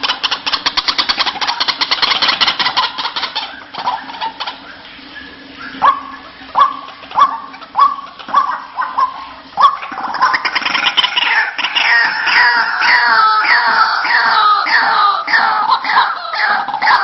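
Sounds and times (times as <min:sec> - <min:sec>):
bird harsh chattering: 0:00.0 - 0:17.0
bird repeated kwaak calls: 0:00.0 - 0:17.0.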